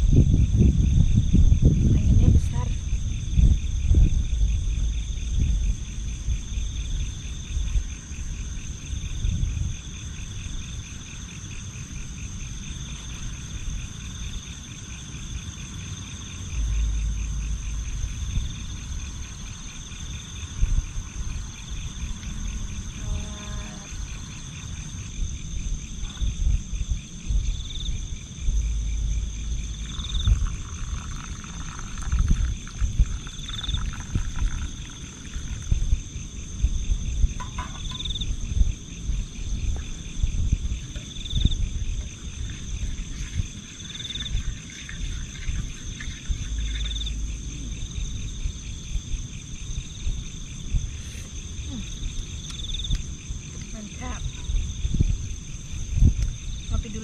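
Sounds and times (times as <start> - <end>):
insects trilling: 0.0 - 57.0
wind buffeting microphone: 0.0 - 57.0.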